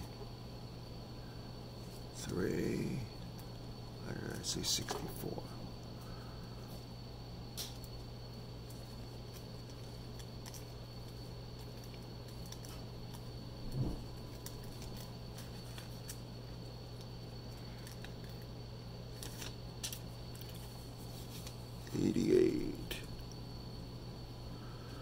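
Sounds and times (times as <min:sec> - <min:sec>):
faint high whine: 0:00.0 - 0:25.0
low electrical hum: 0:00.0 - 0:25.0.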